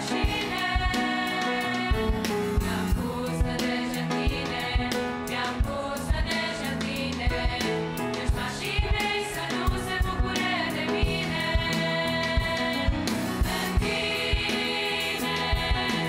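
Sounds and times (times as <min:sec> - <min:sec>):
girls' choir singing a hymn: 0:00.0 - 0:16.0
piano: 0:00.0 - 0:16.0
steady drum beat: 0:00.0 - 0:16.0.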